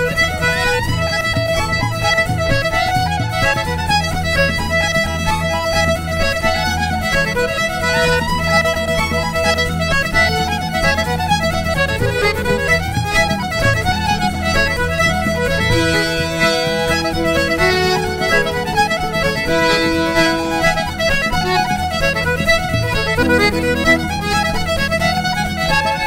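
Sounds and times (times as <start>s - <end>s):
fiddle melody: 0.0s - 26.0s
folk band playing: 0.0s - 26.0s.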